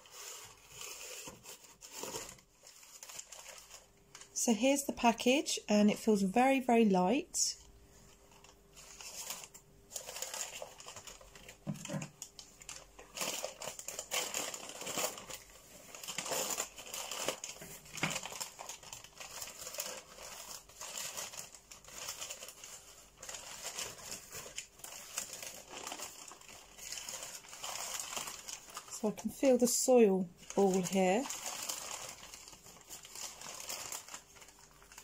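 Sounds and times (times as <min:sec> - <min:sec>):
newspaper crinkling: 0:00.0 - 0:04.3, 0:08.0 - 0:35.0.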